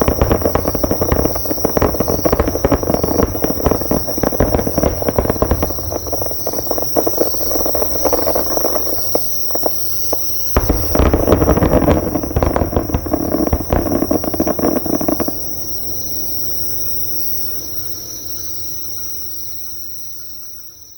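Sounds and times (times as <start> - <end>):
distant fireworks crackling: 0.0 - 17.3
insect chirping in pulses: 0.0 - 20.9
insects trilling: 0.0 - 20.9.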